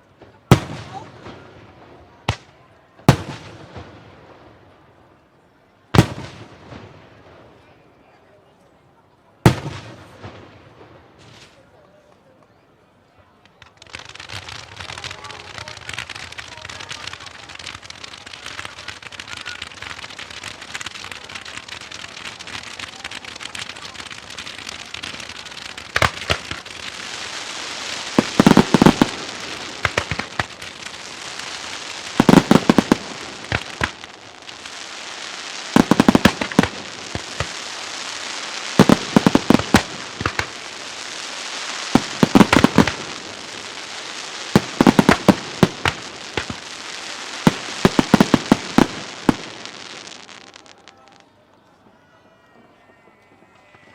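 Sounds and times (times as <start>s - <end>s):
fireworks crackling: 0.0s - 5.2s, 5.9s - 7.7s, 9.4s - 12.2s, 12.9s - 51.4s
fireworks sharp bangs: 0.1s - 4.6s, 5.9s - 7.6s, 9.4s - 11.6s, 13.6s - 50.9s.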